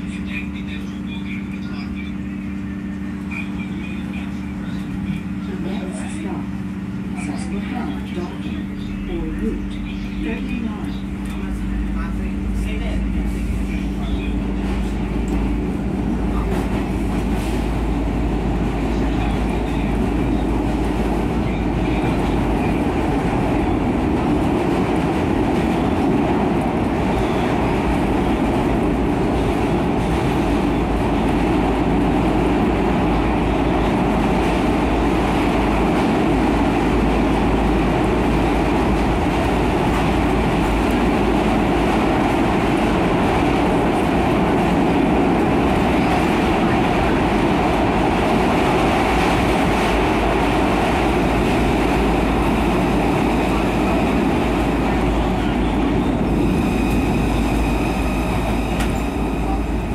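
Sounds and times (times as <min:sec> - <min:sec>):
subway train rumbling on rails: 0:00.0 - 0:59.9.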